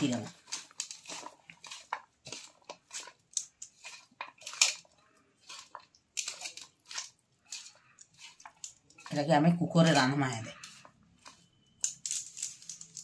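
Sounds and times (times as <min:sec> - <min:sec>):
hand squishing food: 0:00.0 - 0:11.7.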